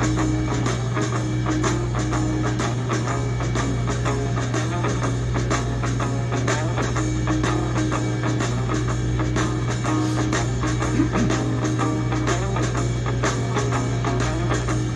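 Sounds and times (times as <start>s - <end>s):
rock music with drums and guitar: 0.0s - 14.9s.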